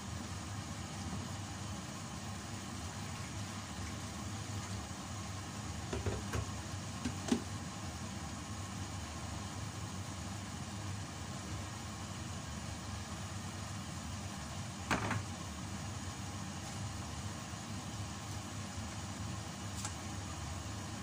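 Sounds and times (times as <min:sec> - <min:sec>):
food simmering in a pan: 0:00.0 - 0:21.0.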